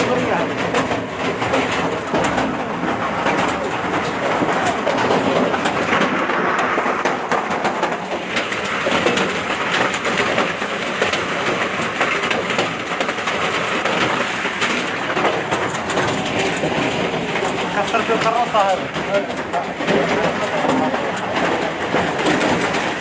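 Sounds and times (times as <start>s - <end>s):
hailstones striking hard surfaces: 0.0s - 23.0s.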